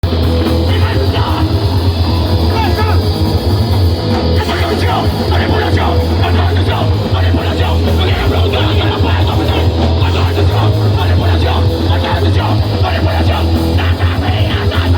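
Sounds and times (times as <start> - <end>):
distorted guitar and bass: 0.0 - 14.9
fast chaotic drumming: 0.0 - 14.9.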